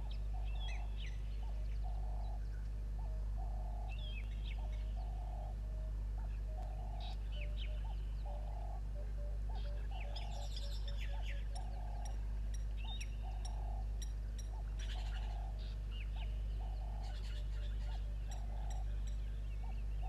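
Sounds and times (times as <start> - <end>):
birds chirping and twittering: 0.0 - 20.0
low bird call: 0.0 - 20.0
steady low hum: 0.0 - 20.0.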